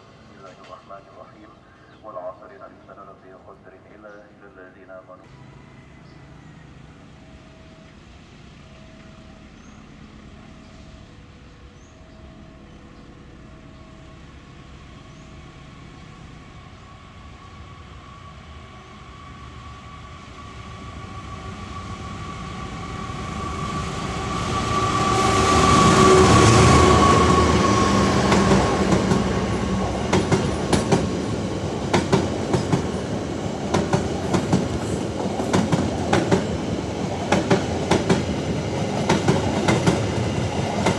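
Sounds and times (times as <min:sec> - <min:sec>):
passenger train passing: 0:00.0 - 0:40.9.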